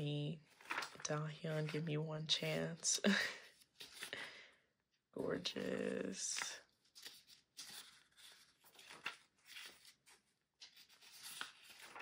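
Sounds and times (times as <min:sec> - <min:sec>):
paper pages rustling: 0:00.0 - 0:04.3, 0:05.3 - 0:12.0.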